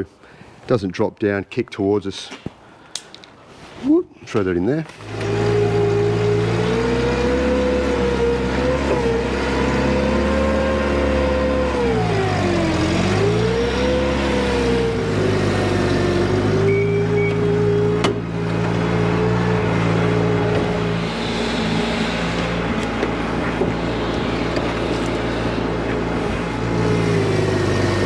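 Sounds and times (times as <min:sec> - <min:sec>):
forklift engine running: 0:05.0 - 0:28.0.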